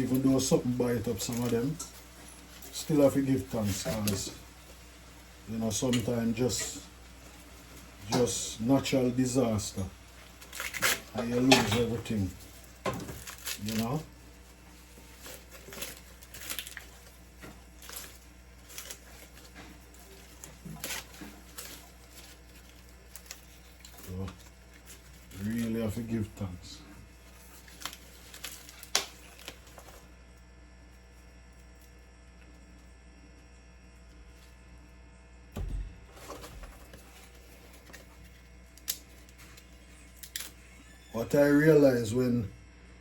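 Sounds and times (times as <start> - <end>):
corn husks rustling and crackling: 0.0 - 32.8, 36.0 - 42.4
steady electrical hum: 0.0 - 43.0.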